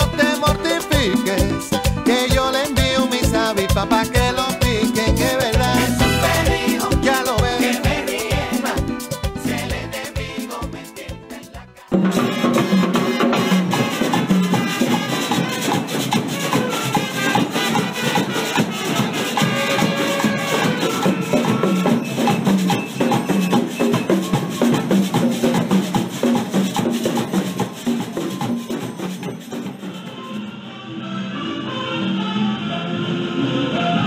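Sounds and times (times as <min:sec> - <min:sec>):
street marching band playing: 0:00.0 - 0:10.8, 0:11.9 - 0:30.6
drums and hand percussion: 0:00.0 - 0:30.6.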